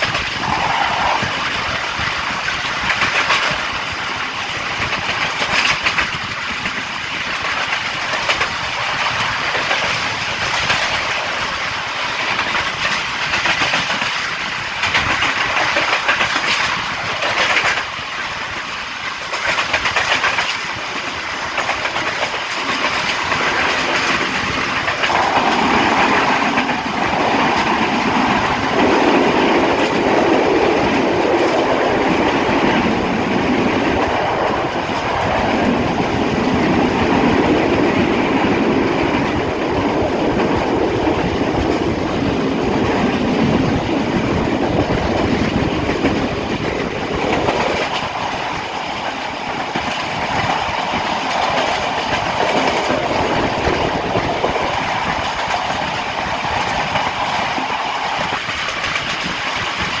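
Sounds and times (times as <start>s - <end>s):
train wheels on rails: 0.0s - 60.0s.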